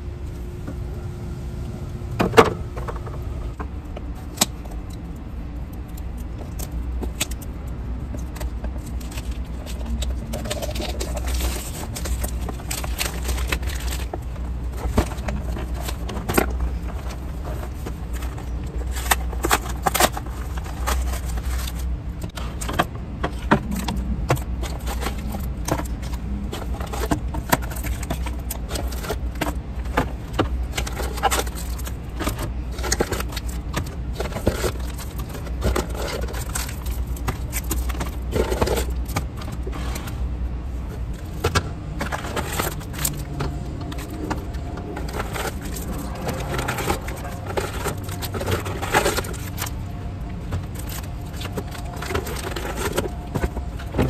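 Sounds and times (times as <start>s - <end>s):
low rumble of construction work: 0.0s - 54.0s
foil drink pouches crinkling: 4.1s - 40.1s, 40.8s - 54.0s.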